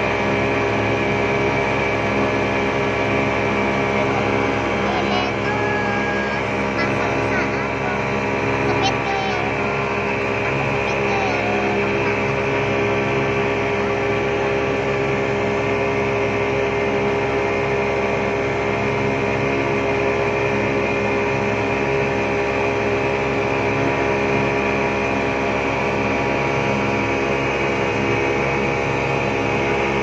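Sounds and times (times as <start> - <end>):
outboard motor droning: 0.0 - 30.0
wind: 0.0 - 30.0.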